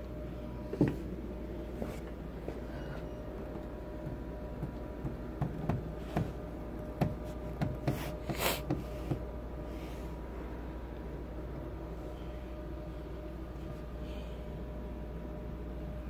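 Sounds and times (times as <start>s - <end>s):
low hum with faint whine: 0.0s - 16.0s.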